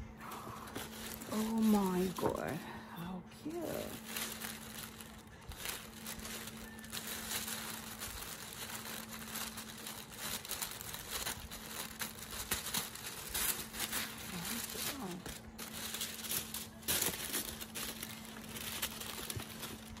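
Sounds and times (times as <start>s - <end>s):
faint low hum: 0.0s - 20.0s
tissue paper crinkling: 0.2s - 2.7s, 3.4s - 20.0s.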